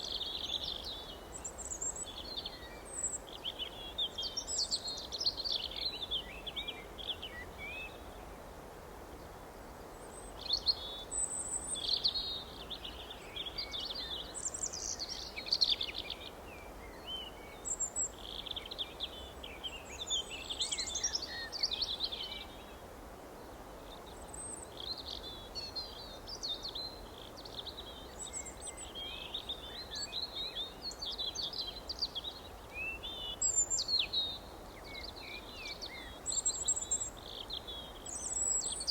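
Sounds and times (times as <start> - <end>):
faint outdoor background hiss: 0.0 - 38.9
songbirds chirping and twittering: 0.0 - 38.9.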